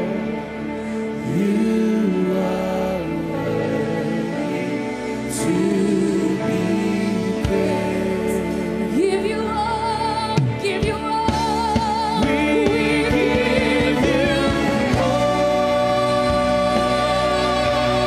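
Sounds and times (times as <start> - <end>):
high voice singing with vibrato: 1.2 - 18.0.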